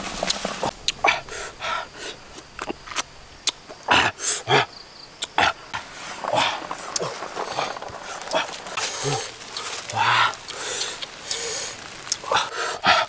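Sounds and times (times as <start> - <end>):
wood fire crackling: 0.0 - 3.8, 5.2 - 13.0.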